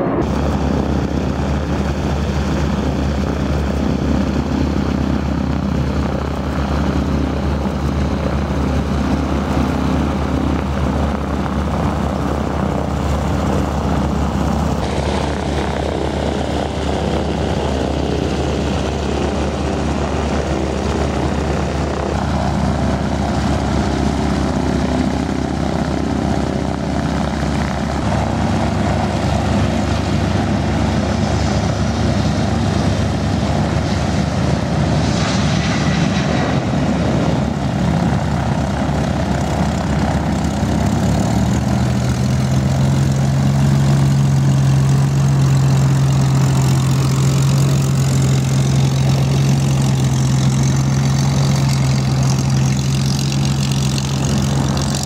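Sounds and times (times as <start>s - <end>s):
propeller aircraft engine running: 0.0s - 55.0s.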